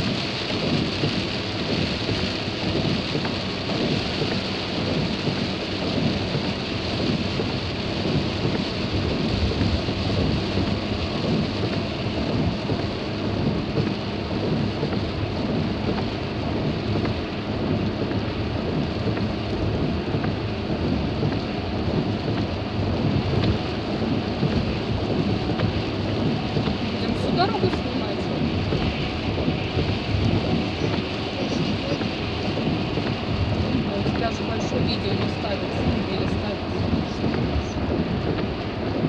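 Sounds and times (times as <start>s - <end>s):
heavy rain drumming on a car: 0.0s - 39.0s.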